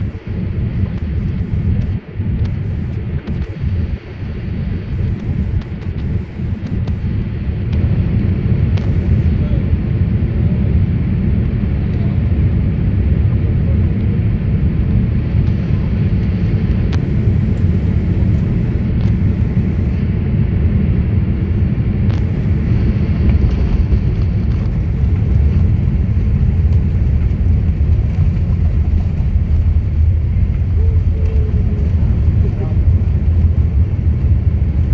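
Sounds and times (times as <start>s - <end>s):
airliner cabin low rumble: 0.0s - 34.9s.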